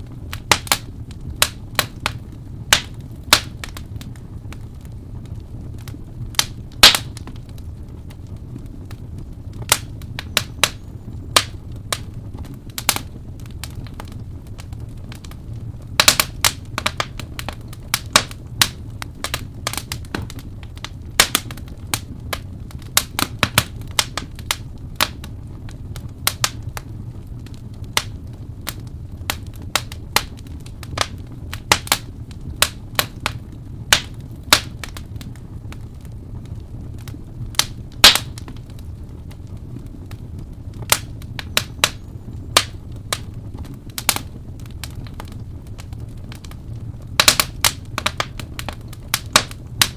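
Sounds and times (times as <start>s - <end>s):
low rumble of flames: 0.0s - 49.9s
wood fire crackling and popping: 0.0s - 49.9s.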